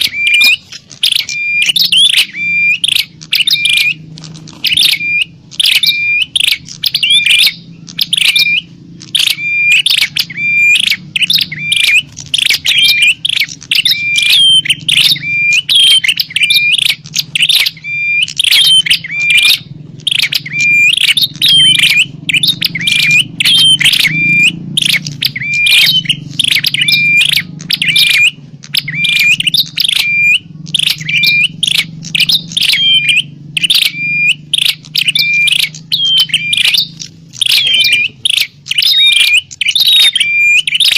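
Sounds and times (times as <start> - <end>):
bird sharp chirping calls: 0.0 - 40.9.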